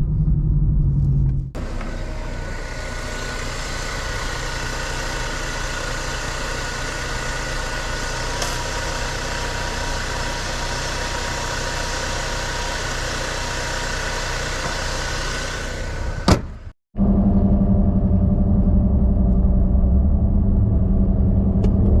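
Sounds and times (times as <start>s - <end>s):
car engine running: 0.0s - 22.0s
deep engine hum: 0.0s - 22.0s.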